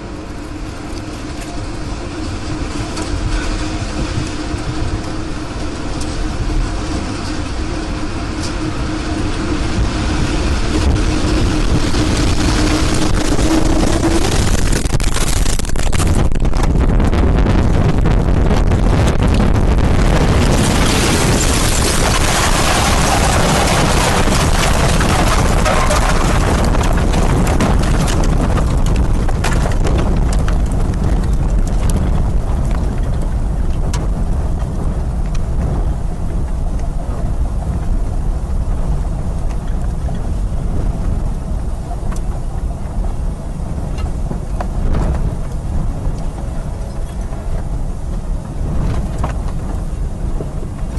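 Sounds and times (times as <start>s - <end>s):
storm wind buffeting microphone: 0.0s - 50.9s.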